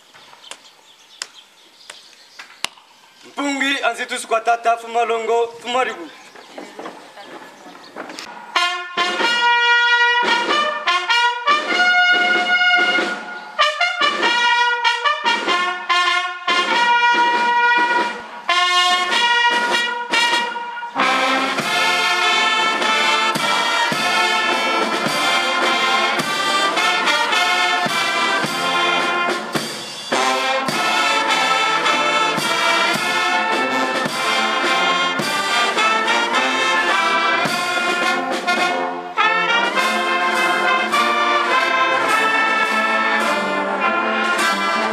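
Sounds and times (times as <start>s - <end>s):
brass band playing: 8.2s - 44.9s.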